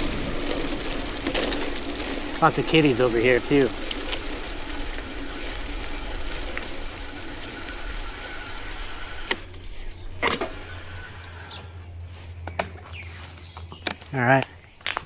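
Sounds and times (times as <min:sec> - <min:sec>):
bike tyres rolling on rough path: 0:00.0 - 0:15.0.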